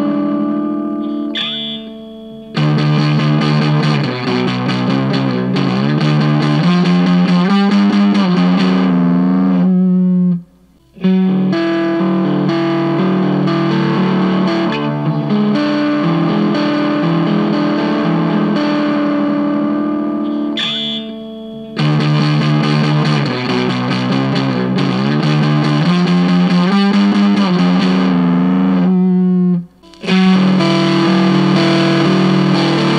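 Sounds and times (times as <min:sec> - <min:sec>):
fuzz electric guitar riff: 0:00.0 - 0:32.9.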